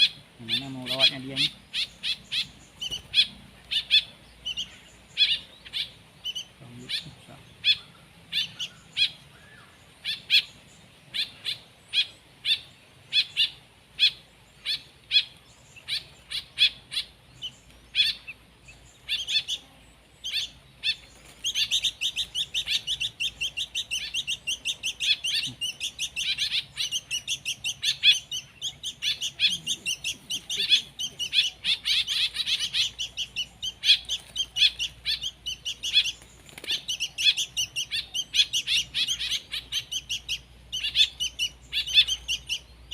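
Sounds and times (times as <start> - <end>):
bird chicks chirping: 0.0 - 42.9.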